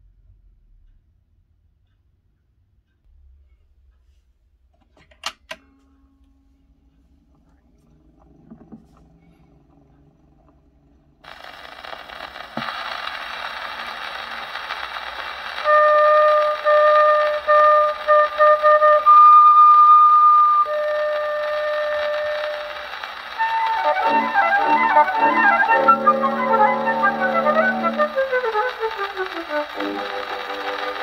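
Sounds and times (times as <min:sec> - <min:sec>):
record surface hiss: 0:02.9 - 0:31.0
flute notes on a record: 0:05.8 - 0:31.0.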